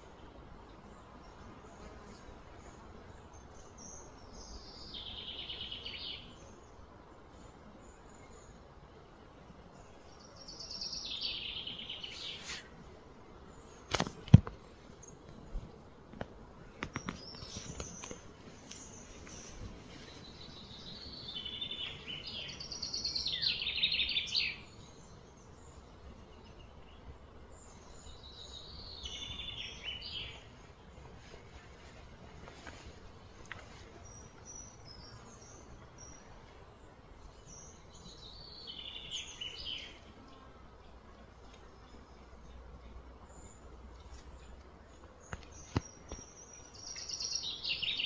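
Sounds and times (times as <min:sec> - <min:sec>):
quiet outdoor background noise: 0:00.0 - 0:48.0
songbird singing: 0:00.0 - 0:48.0.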